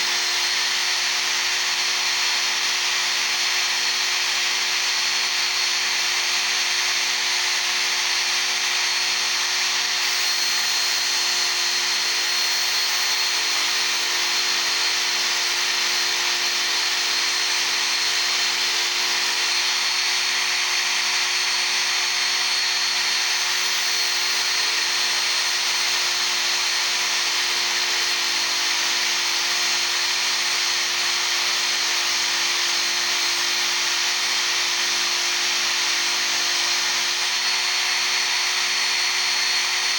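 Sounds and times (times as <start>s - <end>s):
belt sharpener grinding steel: 0.0s - 39.9s.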